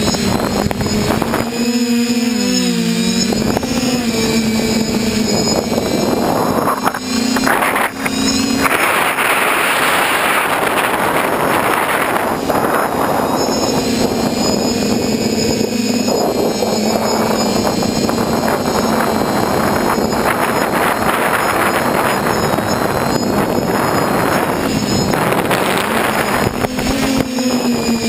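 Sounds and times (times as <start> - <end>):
quadcopter motors humming: 0.0 - 28.0
wind rushing over microphone: 0.0 - 28.0.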